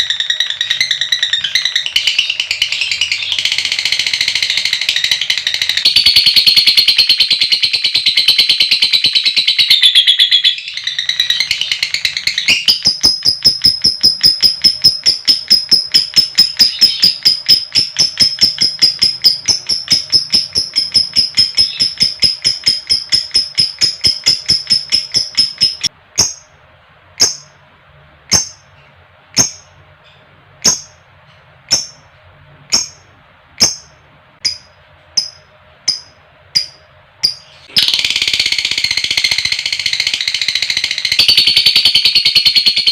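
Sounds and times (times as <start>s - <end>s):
lovebird chirping: 0.0s - 26.6s, 27.2s - 27.6s, 28.3s - 32.1s, 32.7s - 42.9s.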